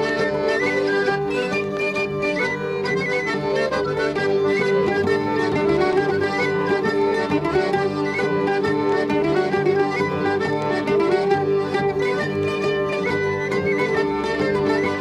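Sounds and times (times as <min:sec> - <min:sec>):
instrumental folk music: 0:00.0 - 0:15.0.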